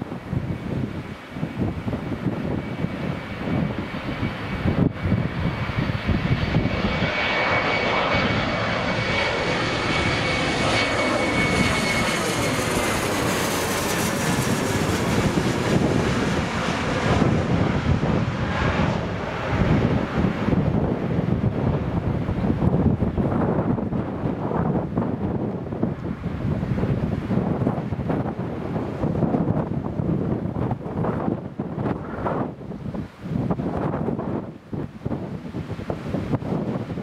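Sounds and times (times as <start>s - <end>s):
airliner passing overhead: 0.0s - 37.0s.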